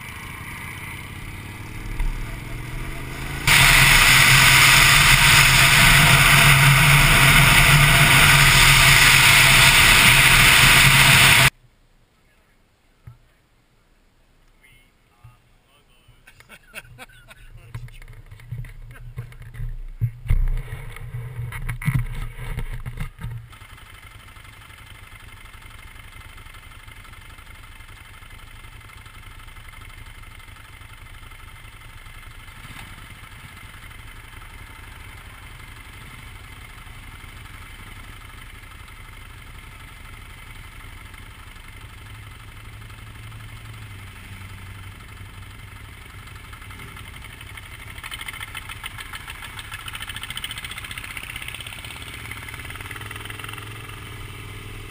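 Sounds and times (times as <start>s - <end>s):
motorcycles idling: 0.0s - 11.6s, 16.0s - 20.3s, 22.1s - 54.9s.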